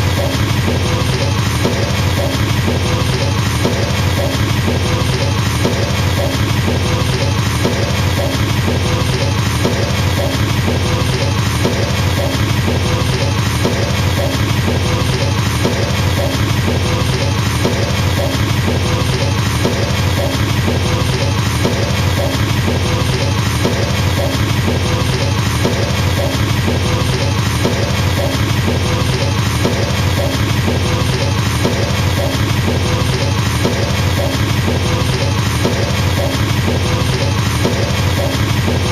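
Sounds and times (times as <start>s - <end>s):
fast double bass drum kicks: 0.0s - 38.9s.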